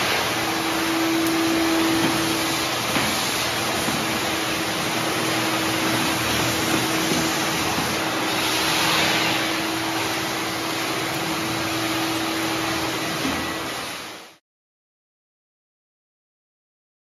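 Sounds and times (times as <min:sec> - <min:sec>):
wet dry vacuum sucking water: 0:00.0 - 0:14.4.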